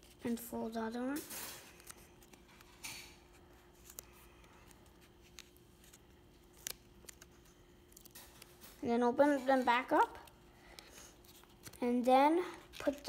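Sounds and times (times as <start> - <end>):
faint steady hum: 0.0 - 13.0
paper rustling: 1.3 - 13.0.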